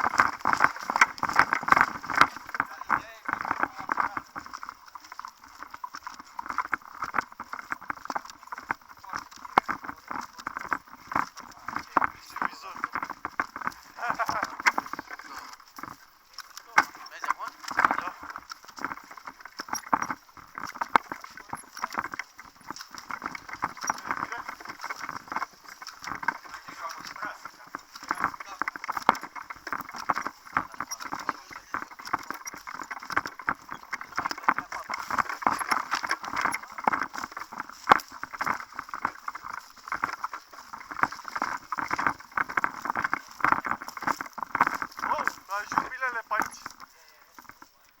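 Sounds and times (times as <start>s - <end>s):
crunching footsteps: 0.0s - 48.0s
gear rustling: 0.0s - 48.0s
irregular knocks and clicks: 0.0s - 48.0s.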